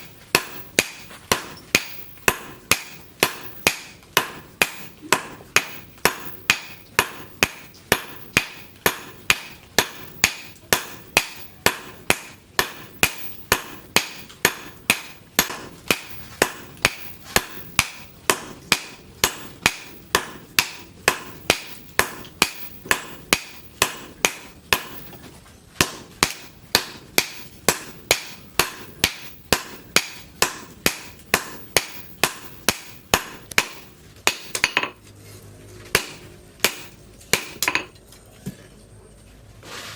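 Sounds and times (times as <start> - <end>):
hammer striking steel on anvil: 0.0 - 35.0, 35.9 - 38.0.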